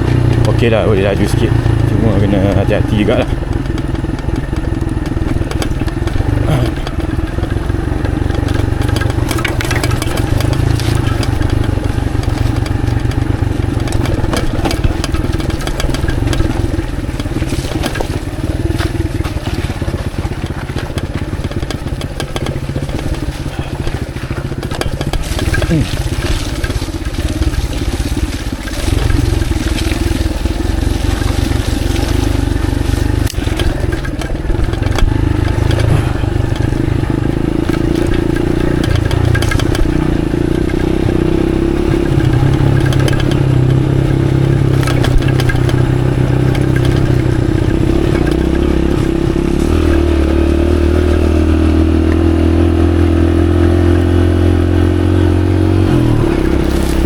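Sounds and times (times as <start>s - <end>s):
motorcycle clattering over rough ground: 0.0s - 57.0s
motorcycle engine running: 0.0s - 57.0s.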